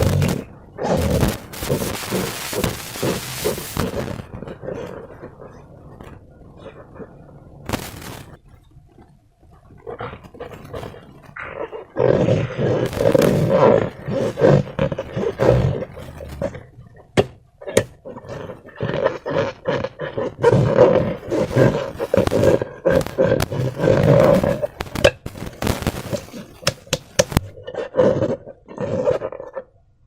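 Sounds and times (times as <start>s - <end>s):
slime and balloons squishing: 0.0s - 27.6s.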